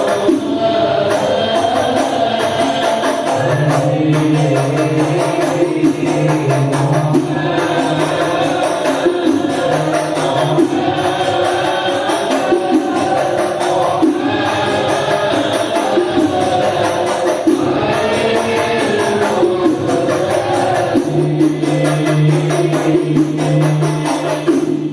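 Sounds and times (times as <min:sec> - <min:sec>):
frame drums beating: 0:00.0 - 0:24.9
group chanting: 0:00.0 - 0:24.9.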